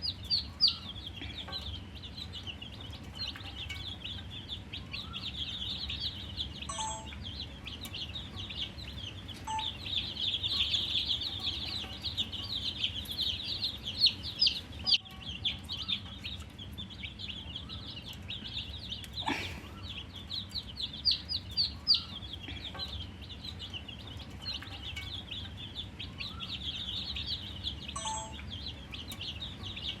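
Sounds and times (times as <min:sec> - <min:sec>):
baby chicks peeping: 0:00.0 - 0:30.0.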